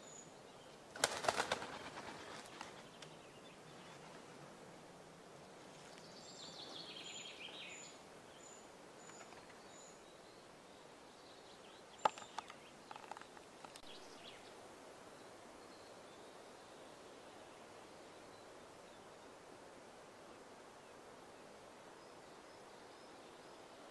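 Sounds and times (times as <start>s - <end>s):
songbirds singing: 0.0s - 4.3s, 5.3s - 23.9s.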